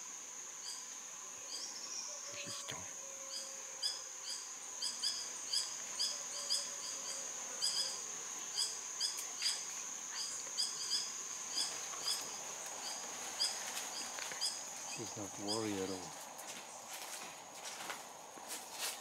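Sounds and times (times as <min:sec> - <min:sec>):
high-pitched insect drone: 0:00.0 - 0:16.2.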